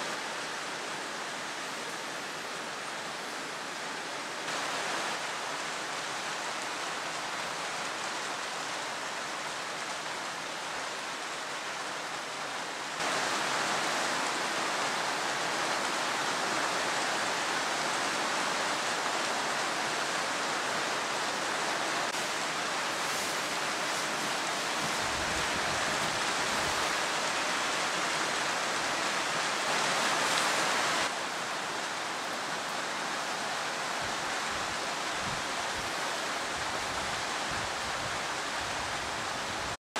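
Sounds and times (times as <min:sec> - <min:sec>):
steady rushing hiss: 0:00.0 - 0:39.8.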